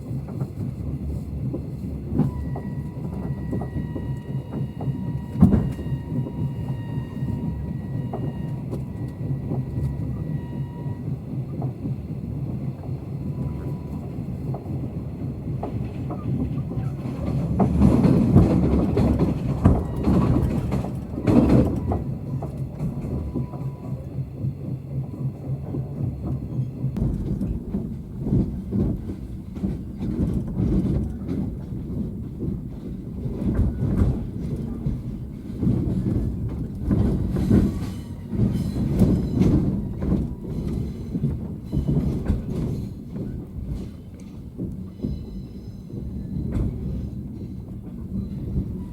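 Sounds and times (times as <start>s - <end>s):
train wheels clattering on track: 0.0s - 48.9s.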